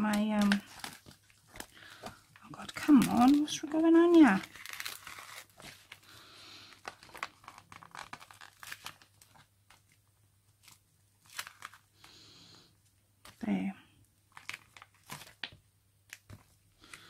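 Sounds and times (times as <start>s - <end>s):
paper rustling and crinkling: 0.0s - 10.0s, 10.6s - 12.1s, 14.3s - 17.0s.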